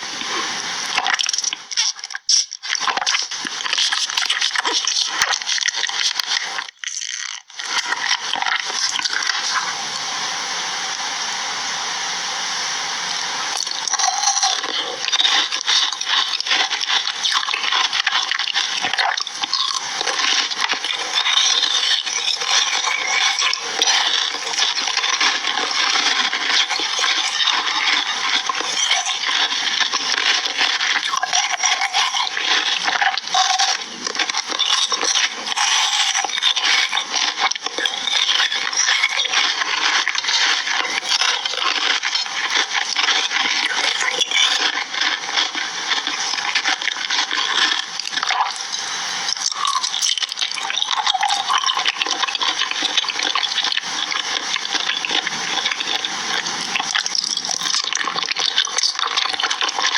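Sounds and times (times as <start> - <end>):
food crunching and crackling: 0.0 - 9.8, 13.5 - 59.9.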